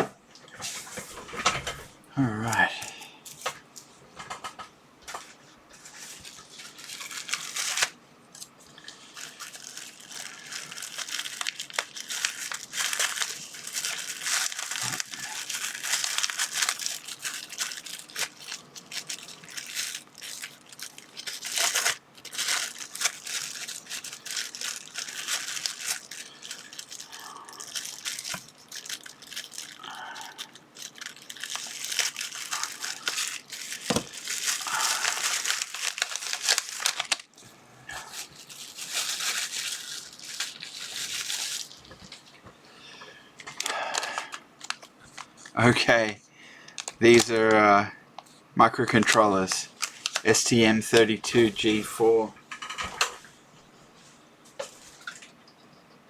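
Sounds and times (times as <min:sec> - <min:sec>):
plastic packaging crinkling: 0:05.1 - 0:45.6, 0:46.6 - 0:53.2.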